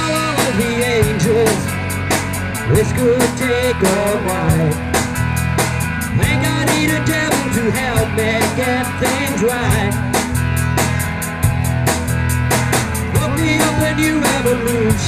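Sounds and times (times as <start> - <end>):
drum kit beat: 0.0 - 15.0
rock band playing: 0.0 - 15.0.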